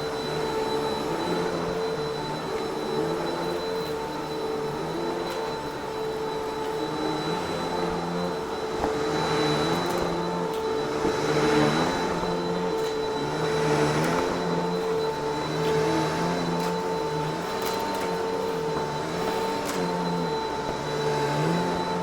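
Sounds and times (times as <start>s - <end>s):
vacuum cleaner motor whine: 0.0s - 22.0s.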